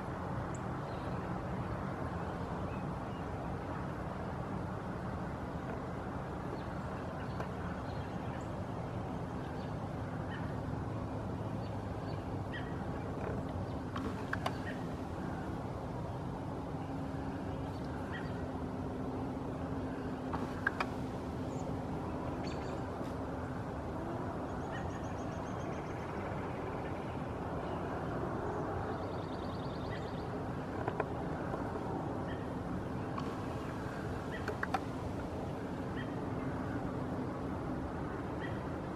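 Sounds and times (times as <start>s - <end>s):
faint steady hum: 0.0s - 38.9s
outdoor background rumble: 0.0s - 38.9s.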